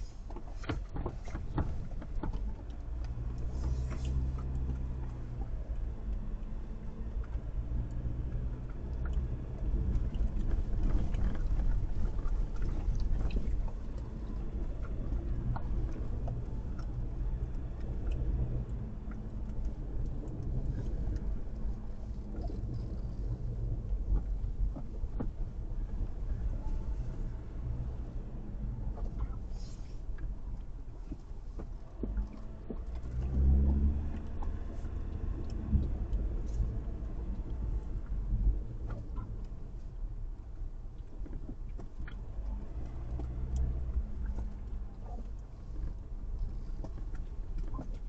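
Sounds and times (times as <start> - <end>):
vehicle engine droning: 0.0 - 48.0.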